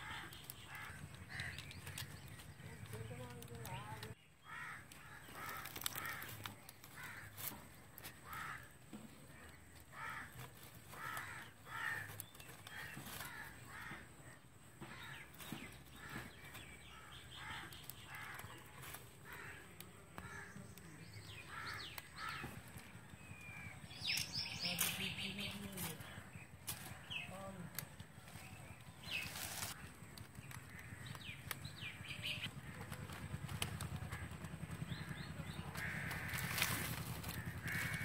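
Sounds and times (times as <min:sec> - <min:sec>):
bird calling: 0:00.0 - 0:38.0.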